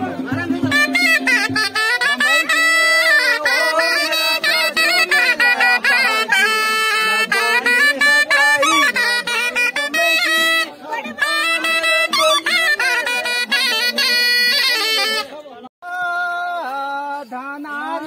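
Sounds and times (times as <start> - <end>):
reedy wind instrument folk melody: 0.0 - 15.7.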